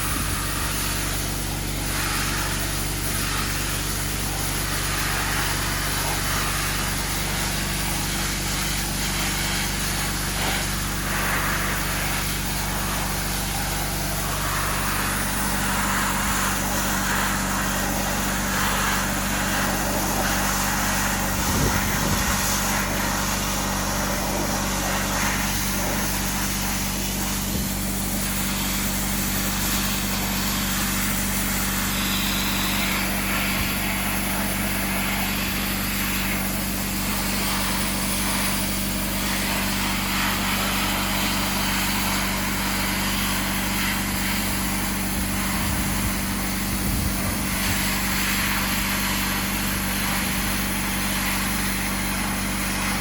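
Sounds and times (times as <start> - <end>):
air compressor drone: 0.0 - 53.0
sandblasting nozzle hiss: 0.0 - 53.0.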